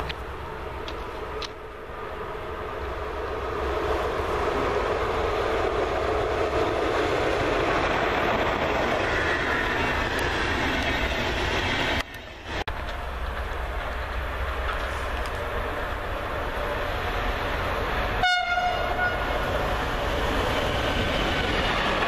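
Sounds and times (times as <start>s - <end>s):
passenger train passing: 0.0s - 22.0s.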